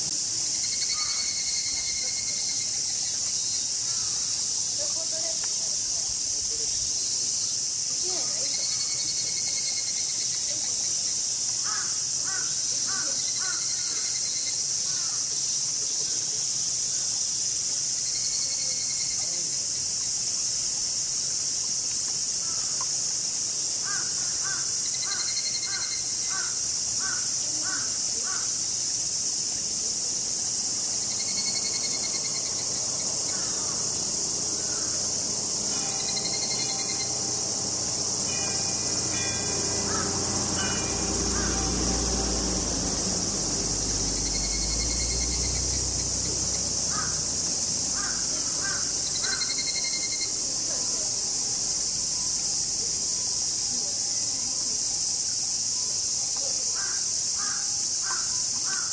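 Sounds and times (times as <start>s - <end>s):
insect chorus drone: 0.0s - 58.9s.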